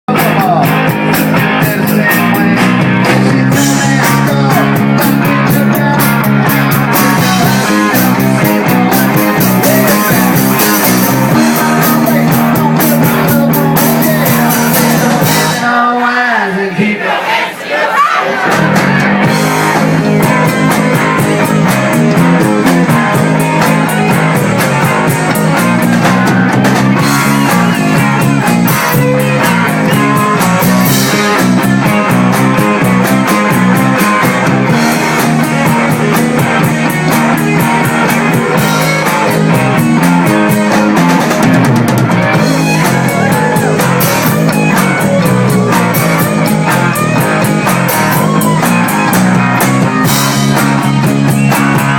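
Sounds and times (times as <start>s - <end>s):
electric guitar: 0.0s - 16.0s, 18.4s - 51.9s
drum kit: 0.1s - 15.7s, 18.3s - 51.9s.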